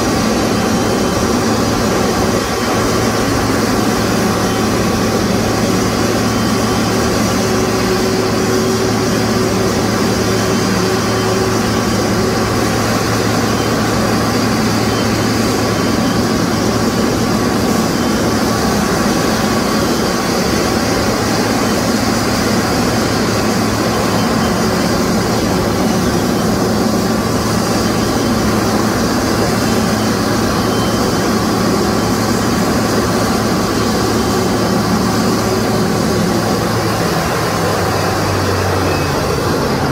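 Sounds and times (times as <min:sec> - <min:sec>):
jet engines running: 0:00.0 - 0:39.9
thin engine whine: 0:00.0 - 0:39.9.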